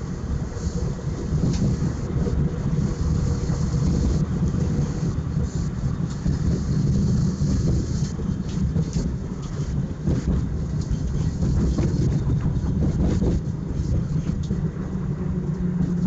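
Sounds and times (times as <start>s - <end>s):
tram rumbling on track: 0.0s - 16.0s.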